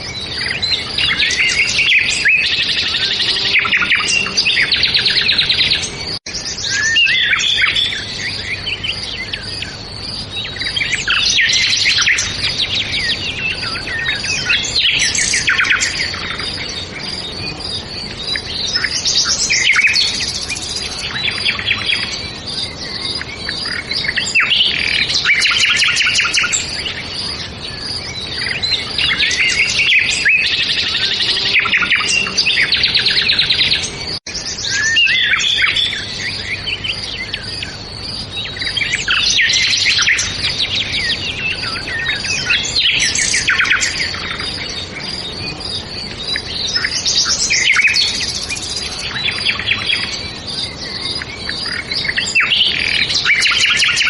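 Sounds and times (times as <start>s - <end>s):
many birds chirping and singing: 0.0s - 54.0s.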